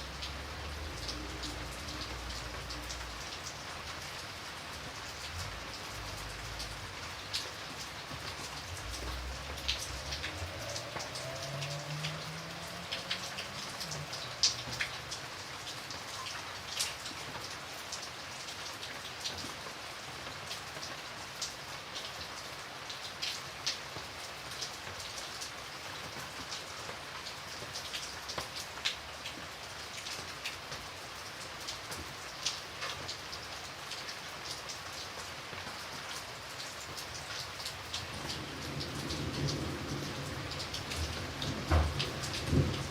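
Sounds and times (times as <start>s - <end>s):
raindrops ticking close by: 0.0s - 42.9s
steady rain hiss: 0.0s - 42.9s.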